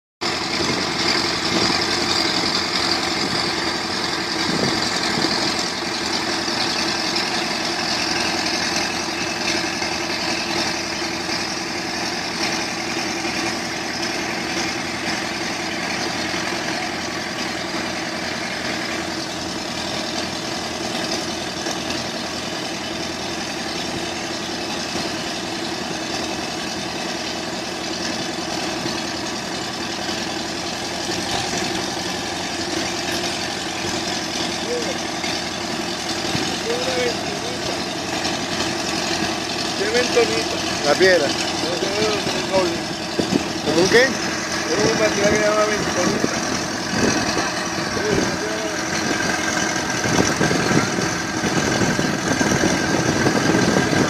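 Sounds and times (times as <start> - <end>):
engine running steadily: 0.2 - 54.0.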